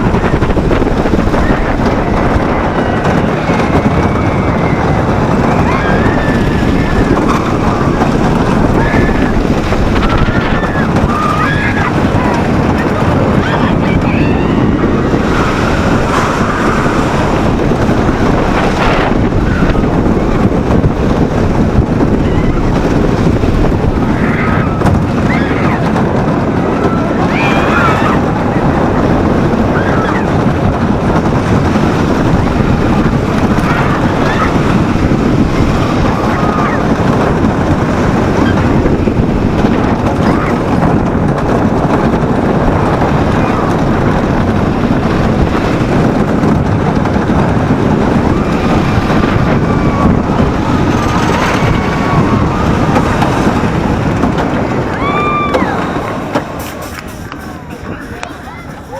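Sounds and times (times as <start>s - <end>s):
riders shouting and screaming: 0.0s - 58.9s
roller coaster train rumbling: 0.0s - 58.9s
wind on microphone: 0.0s - 58.9s.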